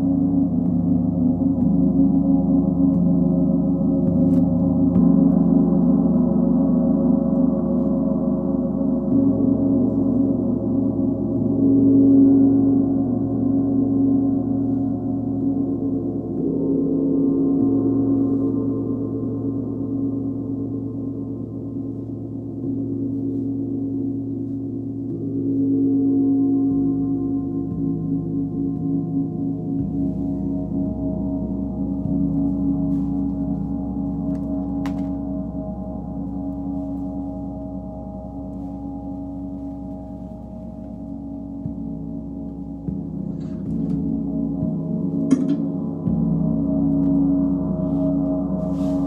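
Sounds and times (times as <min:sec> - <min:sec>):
gongs played with mallet: 0:00.0 - 0:49.0.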